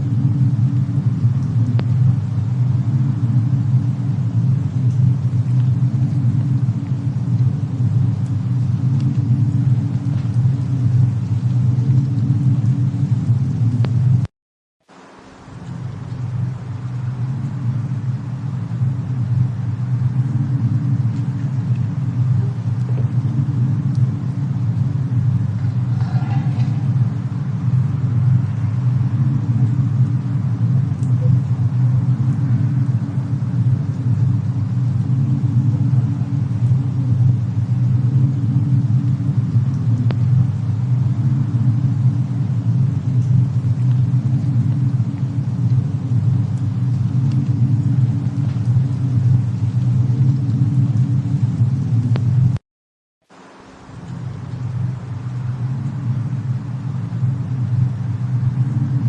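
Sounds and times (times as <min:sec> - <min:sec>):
faint fire crackles: 0:00.0 - 0:52.6, 0:53.2 - 0:59.0
steady low rumble: 0:00.0 - 0:52.6, 0:53.3 - 0:59.0.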